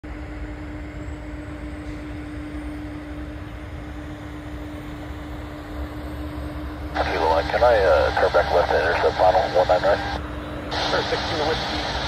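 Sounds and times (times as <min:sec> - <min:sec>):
jet plane rumble: 0:00.0 - 0:12.0.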